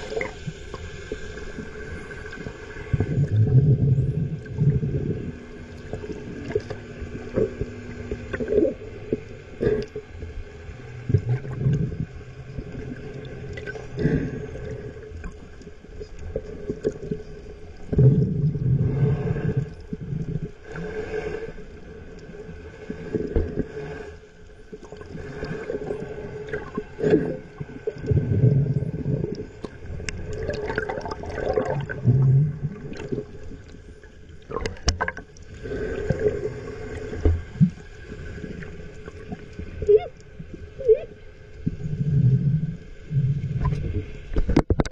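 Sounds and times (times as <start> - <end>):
faint steady hum: 0.0 - 44.8
underwater water swells and thumps: 0.0 - 44.9.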